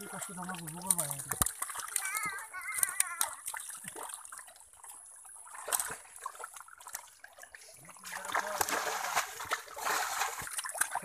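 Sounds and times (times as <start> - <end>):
hands sloshing in watery mud: 0.0 - 11.0
small water splashes: 0.0 - 11.0.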